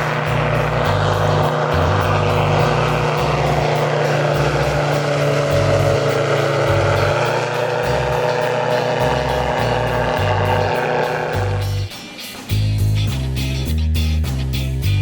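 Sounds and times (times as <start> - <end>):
background music with bass: 0.0 - 15.0
engine drone: 0.0 - 15.0.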